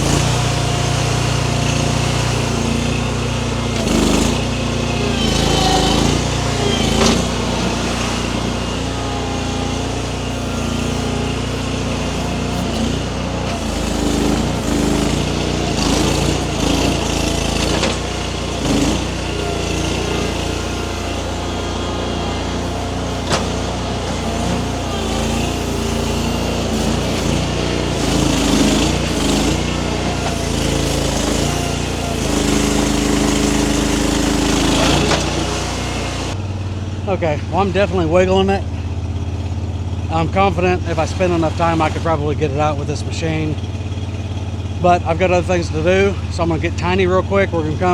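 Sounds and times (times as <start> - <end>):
small engine running under load: 0.0 - 47.9.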